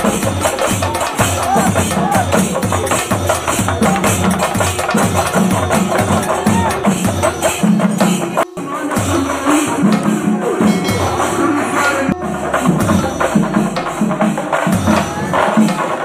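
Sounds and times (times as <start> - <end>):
drums beat: 0.0 - 16.0
jingling hand percussion: 0.0 - 16.0.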